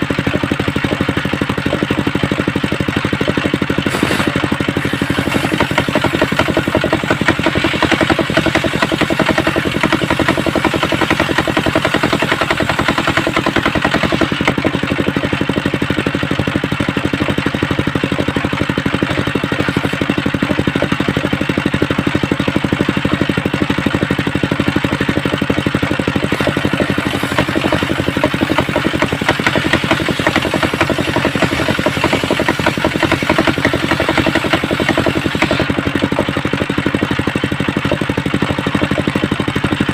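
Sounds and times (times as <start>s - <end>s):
engine running with rapid pulsing: 0.0s - 39.9s.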